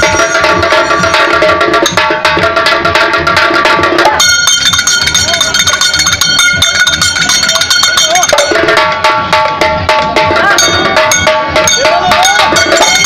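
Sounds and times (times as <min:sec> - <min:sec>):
hand cymbals ringing: 0:00.0 - 0:02.2, 0:04.1 - 0:13.0
barrel drums beaten fast: 0:00.0 - 0:13.0
sliding melody line: 0:00.0 - 0:13.0.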